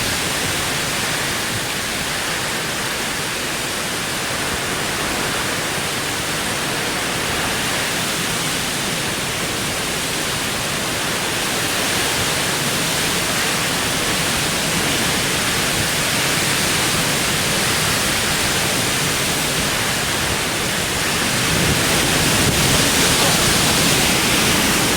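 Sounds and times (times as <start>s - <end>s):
heavy rain pouring: 0.0s - 24.9s
wind: 0.0s - 24.9s.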